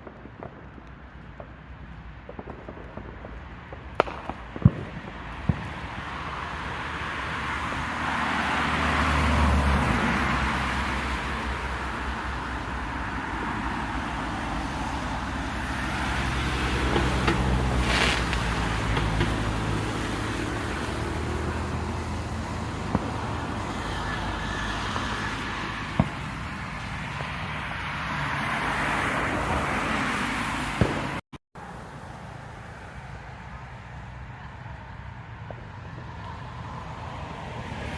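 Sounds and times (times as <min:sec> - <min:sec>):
cars passing: 0:00.0 - 0:37.9.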